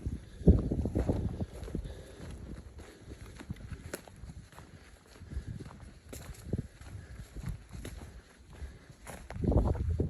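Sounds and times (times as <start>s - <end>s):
footsteps on a trail: 0.0s - 10.0s.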